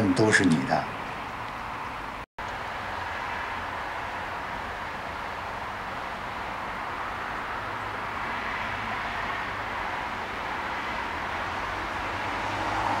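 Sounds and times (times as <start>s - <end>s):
street background hiss: 0.0s - 13.0s.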